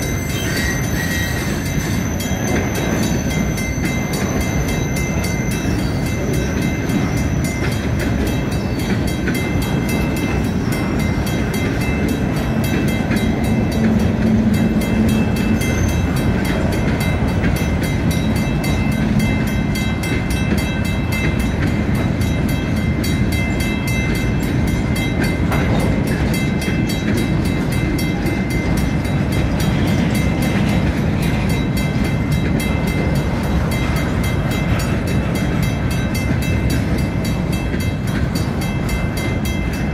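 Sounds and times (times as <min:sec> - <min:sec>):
freight train cars rolling: 0:00.0 - 0:39.9
high-pitched wheel and rail tones: 0:00.0 - 0:39.9.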